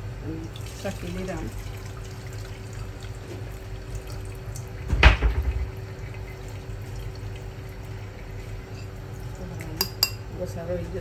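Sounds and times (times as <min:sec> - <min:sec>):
liquid pouring into metal pot: 0:00.5 - 0:10.2.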